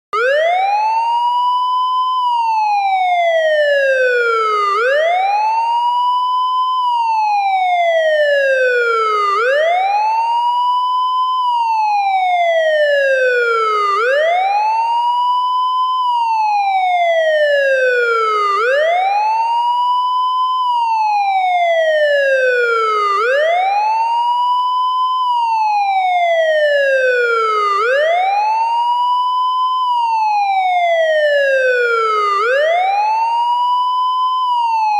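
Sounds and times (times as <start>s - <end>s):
police siren wail: 0.1s - 34.9s.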